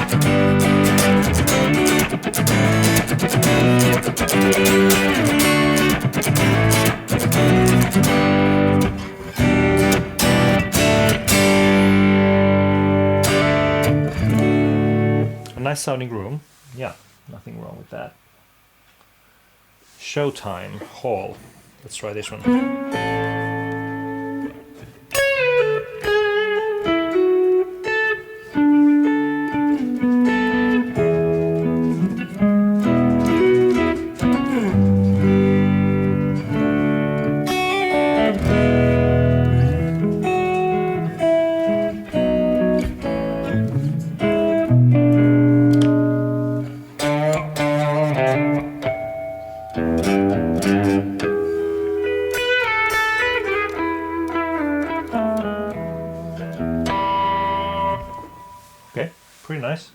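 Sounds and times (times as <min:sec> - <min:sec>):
electric guitar with reverb: 0:00.0 - 0:15.6, 0:22.2 - 0:59.2.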